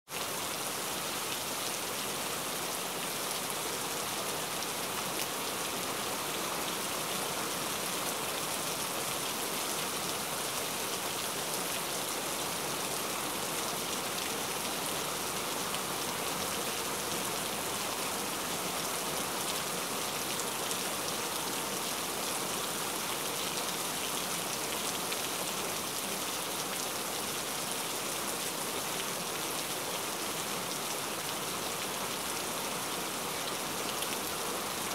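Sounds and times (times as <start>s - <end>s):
steady rain: 0.1s - 34.9s.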